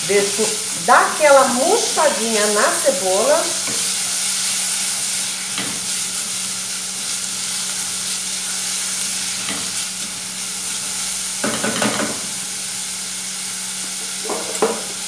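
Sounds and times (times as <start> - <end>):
garlic and onion sizzling in oil: 0.0 - 15.0.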